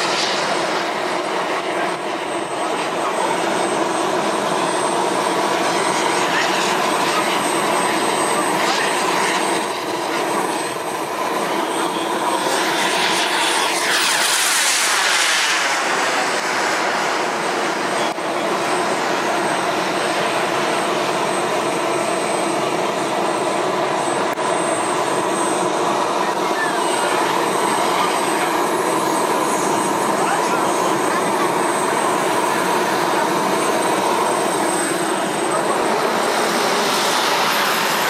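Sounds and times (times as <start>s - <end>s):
model jet engine rushing: 0.0s - 38.0s.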